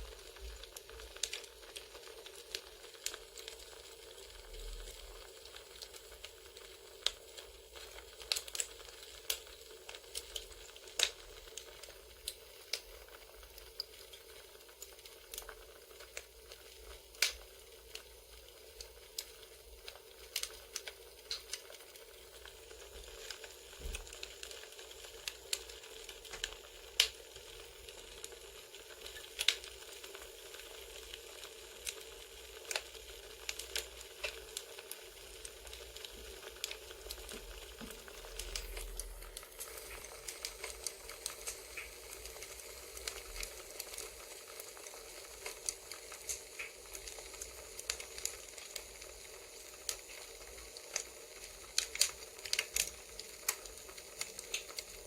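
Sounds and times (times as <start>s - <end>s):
wood fire crackling: 0.0s - 55.0s
burning logs popping: 0.1s - 55.0s.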